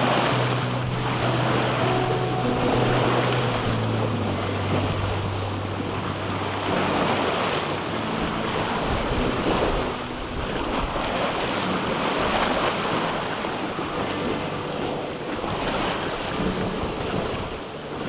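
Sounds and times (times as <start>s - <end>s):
sea water rushing along hull: 0.0s - 18.0s
wind buffeting microphone: 0.0s - 18.0s.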